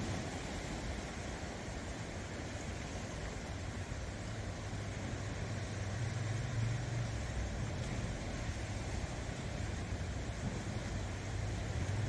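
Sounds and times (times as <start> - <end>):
low engine-like rumble: 0.0 - 12.0
sea waves washing over rocks: 0.0 - 12.0.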